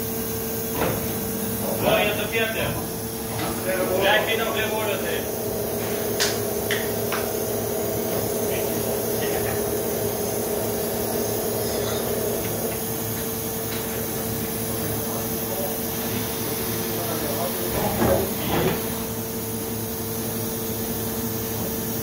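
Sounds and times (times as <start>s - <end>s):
punch press humming and hissing: 0.0s - 22.0s.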